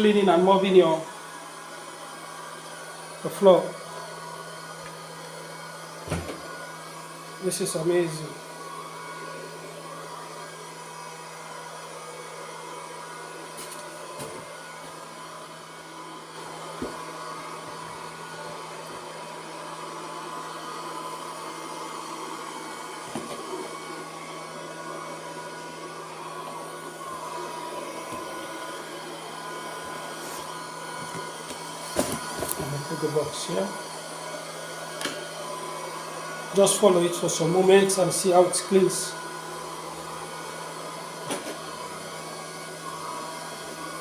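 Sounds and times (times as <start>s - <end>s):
robot vacuum motor hum: 1.3s - 44.0s.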